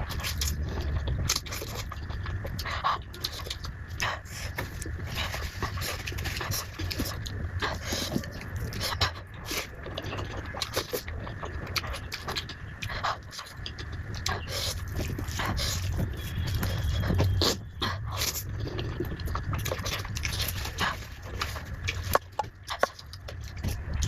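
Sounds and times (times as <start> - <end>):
person chewing food: 0.0 - 24.0
mouth smacks and clicks: 0.2 - 24.0.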